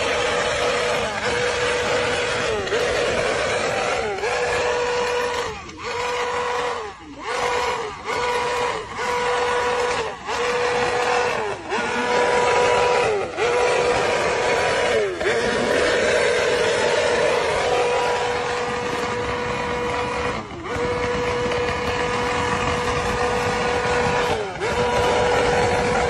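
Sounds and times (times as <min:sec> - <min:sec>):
motorcycle engine revving hard: 0:00.0 - 0:26.0.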